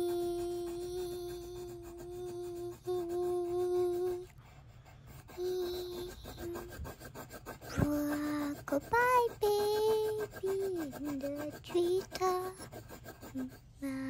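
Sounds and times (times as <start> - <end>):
child humming: 0.0 - 4.3, 5.1 - 14.0
pencil scratching on paper: 0.0 - 14.0.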